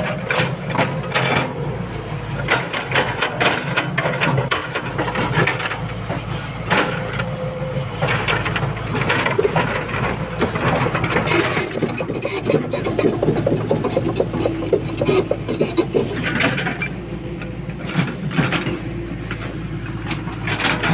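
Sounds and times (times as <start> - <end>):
excavator diesel engine running: 0.0 - 20.9
machine and earth clattering: 2.2 - 20.9.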